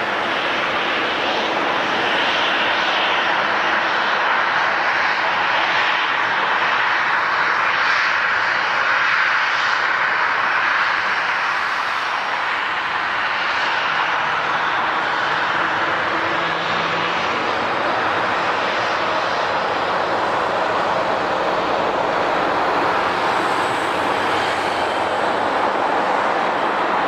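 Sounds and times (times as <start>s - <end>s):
airliner engines running: 0.0s - 27.0s.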